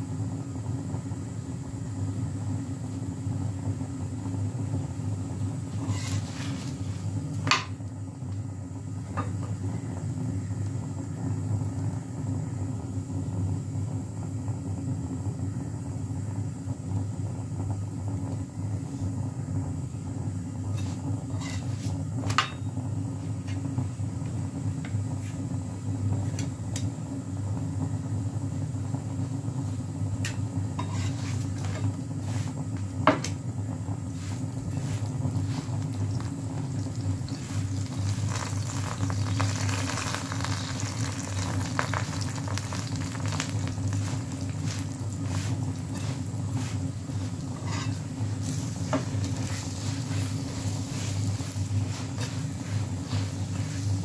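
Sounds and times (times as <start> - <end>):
stove humming: 0.0 - 54.0.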